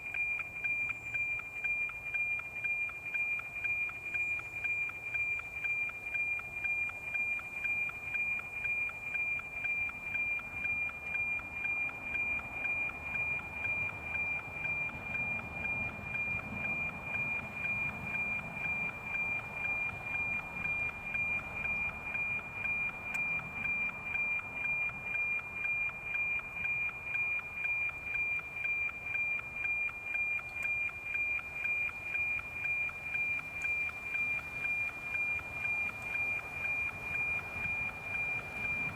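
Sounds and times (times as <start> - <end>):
pulsing high tone: 0.0 - 38.9.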